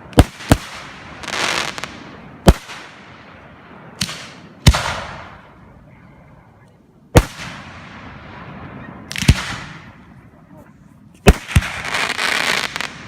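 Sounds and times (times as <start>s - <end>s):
fireworks bangs: 0.0s - 5.6s, 7.1s - 10.2s, 11.1s - 13.0s.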